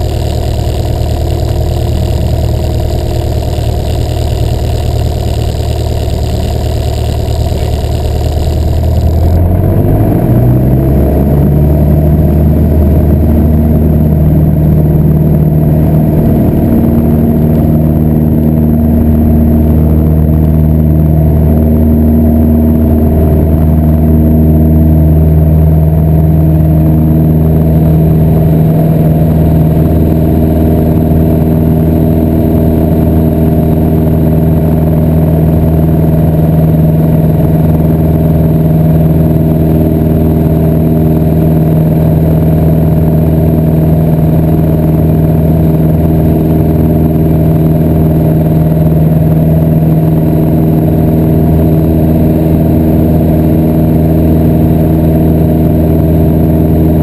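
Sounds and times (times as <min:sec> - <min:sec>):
aircraft engine and propeller: 0:00.0 - 0:57.0.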